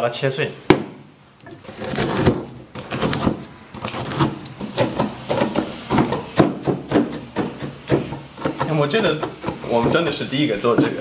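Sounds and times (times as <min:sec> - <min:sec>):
cleaver chopping on wooden block: 0:01.8 - 0:11.0.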